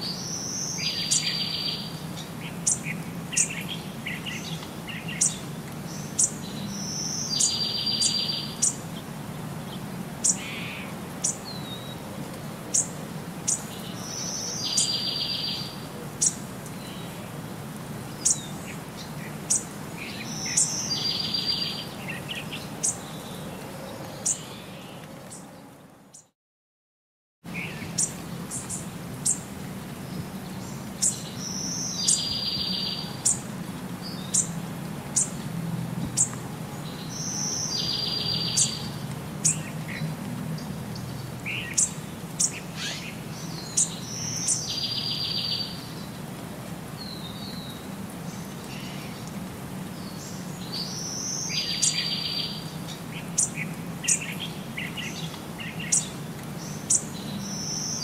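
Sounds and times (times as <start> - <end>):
small birds chirping: 0.0 - 12.0, 12.7 - 17.3, 18.1 - 26.3, 27.5 - 35.4, 36.0 - 58.0.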